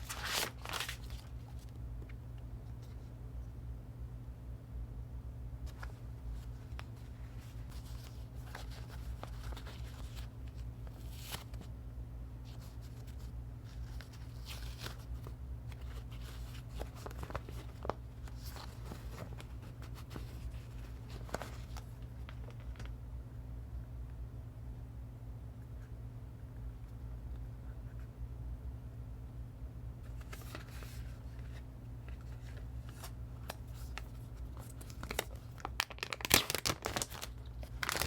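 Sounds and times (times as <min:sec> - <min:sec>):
steady low hum: 0:00.0 - 0:36.1.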